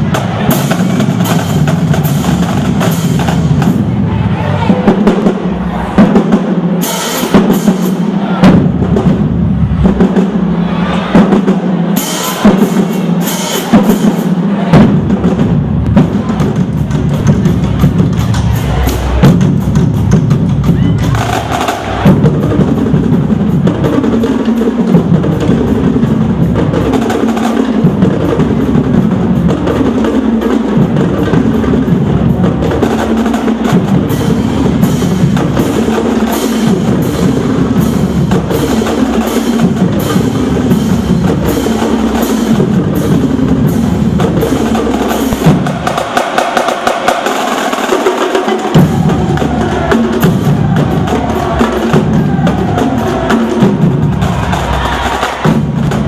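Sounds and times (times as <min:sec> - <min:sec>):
marching snare drums: 0:00.0 - 0:56.0
tenor drums: 0:00.0 - 0:56.0.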